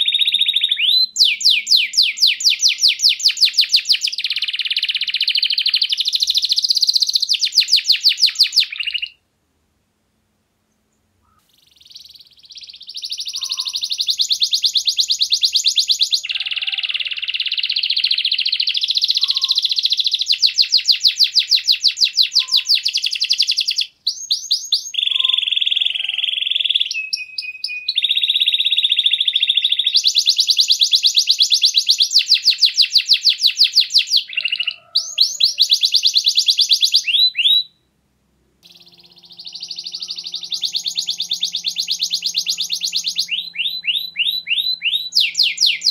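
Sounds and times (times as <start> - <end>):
canary singing trills: 0.0 - 9.2, 10.8 - 37.9, 38.6 - 45.9.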